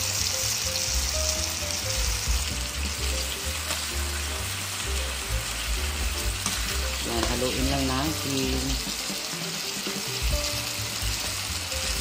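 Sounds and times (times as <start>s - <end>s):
background music with bass: 0.0s - 12.0s
food sizzling in a wok: 0.0s - 12.0s.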